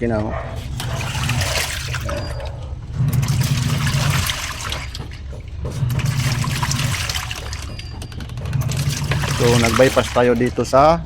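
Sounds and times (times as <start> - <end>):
washing machine motor humming: 0.0 - 11.0
water churning and sloshing: 0.0 - 11.0.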